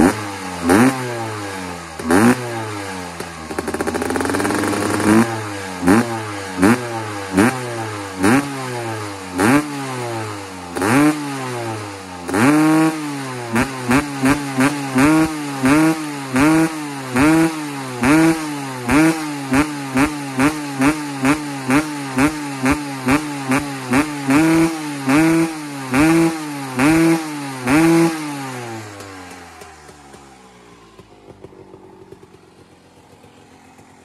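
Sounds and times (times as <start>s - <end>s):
two-stroke engine revving: 0.0s - 34.0s.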